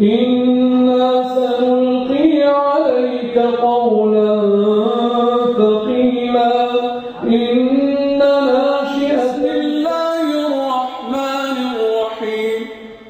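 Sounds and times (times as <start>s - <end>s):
person reciting in melodic voice: 0.0s - 13.0s.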